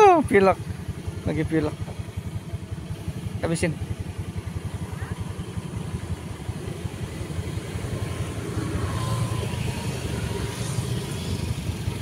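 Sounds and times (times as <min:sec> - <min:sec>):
motorbike engine passing: 0:00.0 - 0:12.0.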